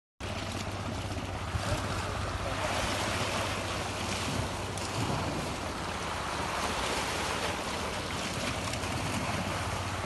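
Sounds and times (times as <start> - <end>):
waves breaking over rocks: 0.2 - 10.0
wind on microphone: 0.8 - 10.0.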